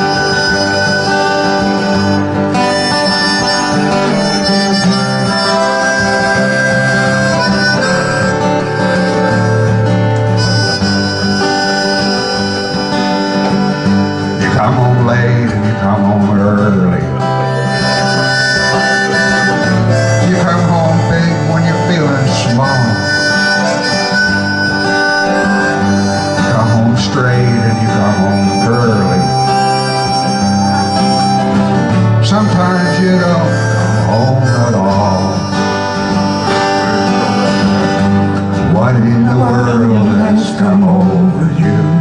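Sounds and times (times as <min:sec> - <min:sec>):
harmonica melody: 0:00.0 - 0:42.0
strummed guitar: 0:00.0 - 0:42.0.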